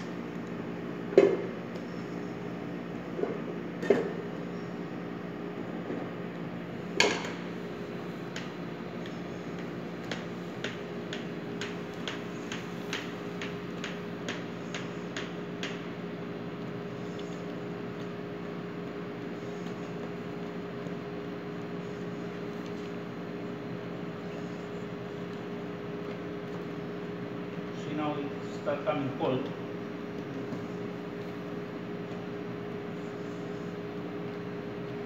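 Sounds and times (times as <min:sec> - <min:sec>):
kitchen machinery hum: 0:00.0 - 0:35.0.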